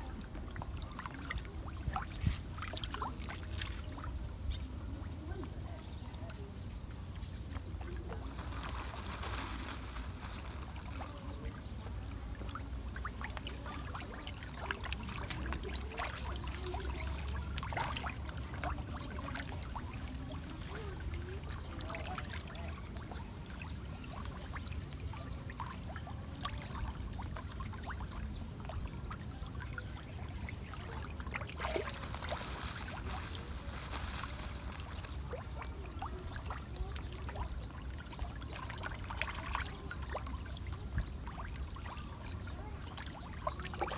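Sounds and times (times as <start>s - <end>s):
fish splashing at water surface: 7.5s - 43.9s.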